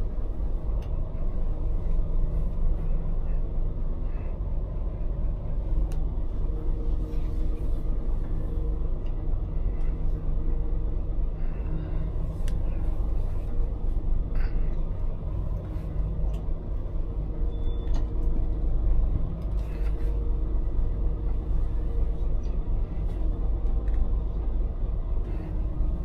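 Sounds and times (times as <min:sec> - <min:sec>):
lorry diesel engine rumbling: 0:00.0 - 0:26.0.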